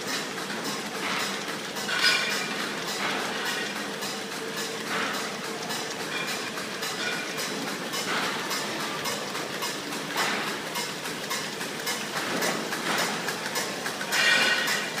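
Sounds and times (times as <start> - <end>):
machine clatter: 0.0 - 15.0
rapid regular clicking: 0.4 - 15.0.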